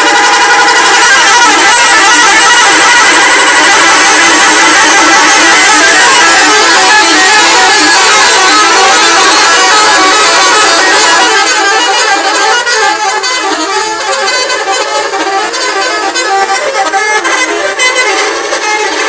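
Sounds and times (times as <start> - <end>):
multi-tone bus horn melody: 0.0 - 19.0.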